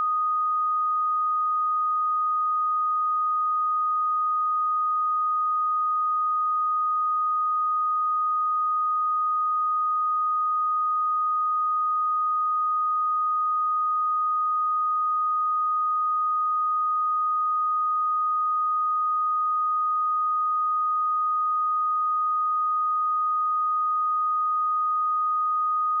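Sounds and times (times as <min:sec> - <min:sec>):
sine wave test tone: 0:00.0 - 0:26.0.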